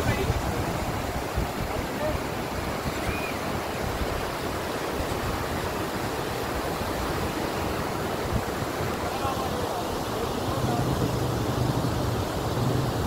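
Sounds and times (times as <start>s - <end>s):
stream and waterfall rushing: 0.0s - 13.0s.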